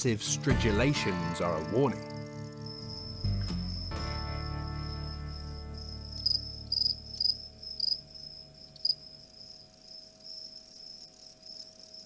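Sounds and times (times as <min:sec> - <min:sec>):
high insect trill: 0:00.6 - 0:12.0
crickets chirping: 0:01.0 - 0:12.0.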